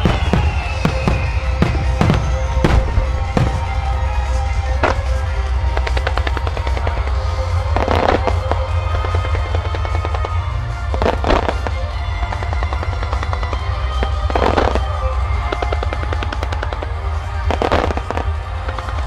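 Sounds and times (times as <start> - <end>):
fireworks pops and crackles: 0.0 - 19.0
fireworks rushing burst: 0.0 - 19.0
music playing: 0.0 - 19.0.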